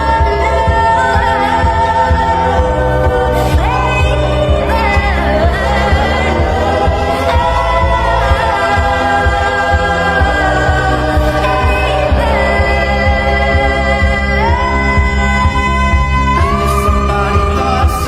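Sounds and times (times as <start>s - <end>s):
pitched-up female vocal singing: 0.0s - 18.0s
pulsing bass beat: 0.0s - 18.0s.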